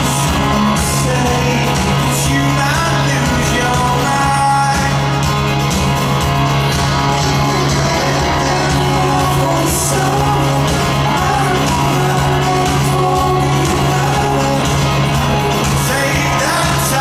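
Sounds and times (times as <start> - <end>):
man singing lead vocal: 0.0 - 5.8, 6.8 - 17.0
live rock band: 0.0 - 17.0.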